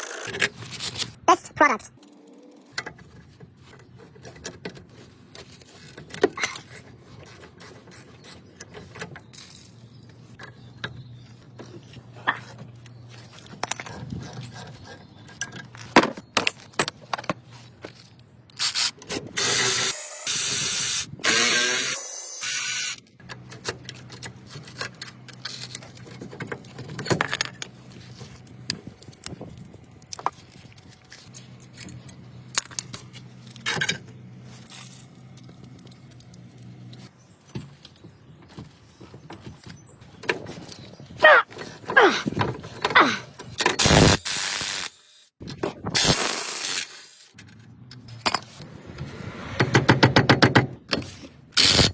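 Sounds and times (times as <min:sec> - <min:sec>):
tools and metal parts clinking: 0:01.9 - 0:19.9, 0:22.9 - 0:43.9, 0:45.4 - 0:48.7.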